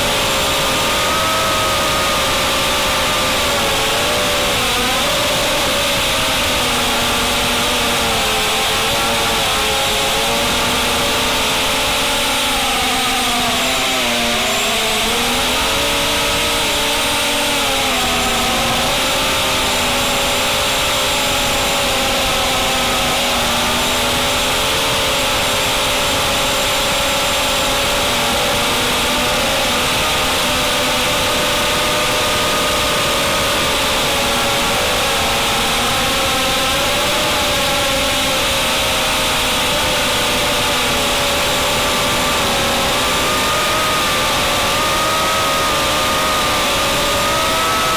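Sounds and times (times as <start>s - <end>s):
drone motors buzzing whine: 0.0s - 47.9s.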